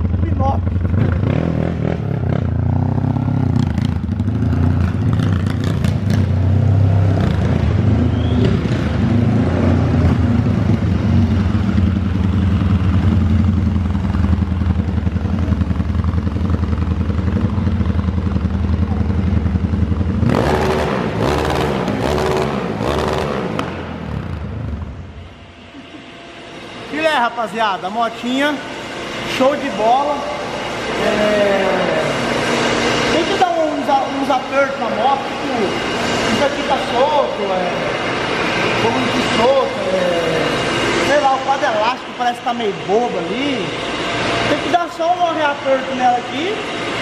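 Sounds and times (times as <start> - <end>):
motorcycle engine running and revving: 0.0 - 26.9, 28.8 - 47.0.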